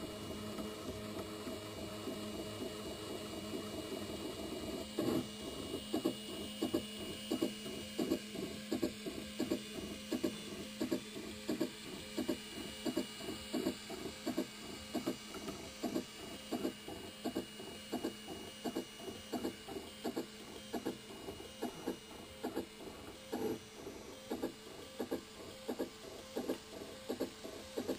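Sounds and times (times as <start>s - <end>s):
printer hum: 0.0s - 27.9s
stepper motors whirring: 5.0s - 27.9s.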